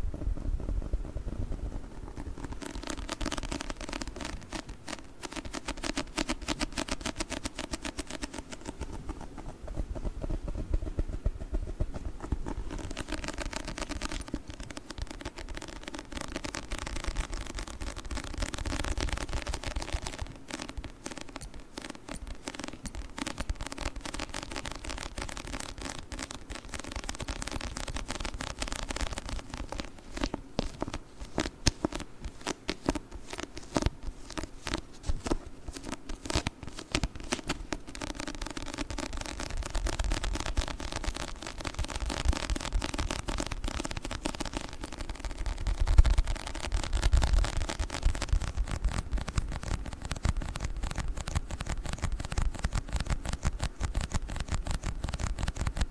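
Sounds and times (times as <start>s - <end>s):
book crackling and peeling: 0.0s - 55.9s.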